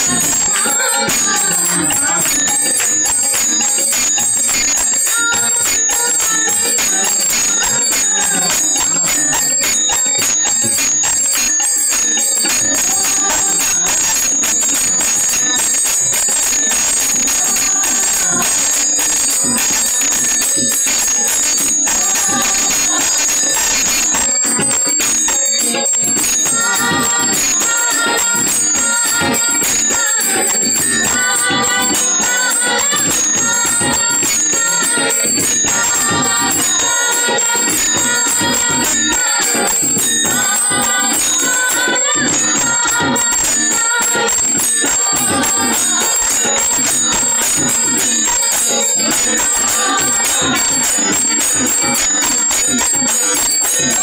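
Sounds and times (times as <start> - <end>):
drum: 0.0 - 54.0
harmonium: 0.0 - 54.0
second woman singing: 0.0 - 54.0
small cymbals jingling: 0.0 - 54.0
woman singing: 0.0 - 54.0.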